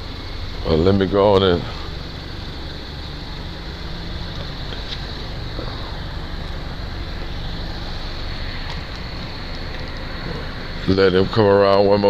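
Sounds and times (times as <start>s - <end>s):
helicopter rotor thrum: 0.0s - 12.0s.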